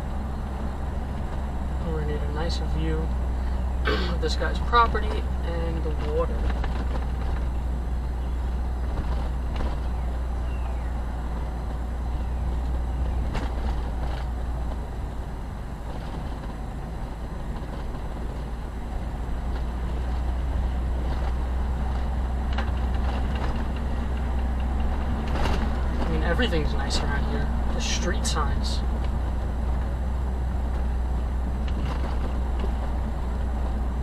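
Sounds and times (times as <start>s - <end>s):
car engine and tyres drone: 0.0s - 34.0s.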